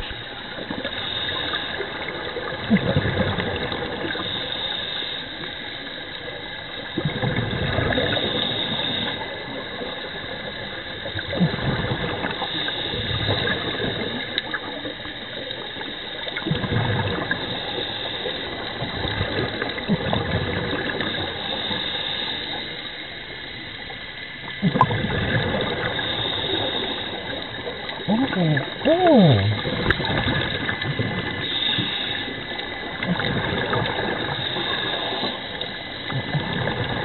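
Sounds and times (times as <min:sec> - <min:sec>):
regulator hiss on inhale: 0:00.0 - 0:02.5, 0:03.9 - 0:06.9, 0:07.9 - 0:11.3, 0:12.2 - 0:19.8, 0:20.9 - 0:24.6, 0:25.6 - 0:36.6
bubbling exhaled air: 0:00.0 - 0:05.6, 0:07.0 - 0:22.7, 0:24.5 - 0:37.0.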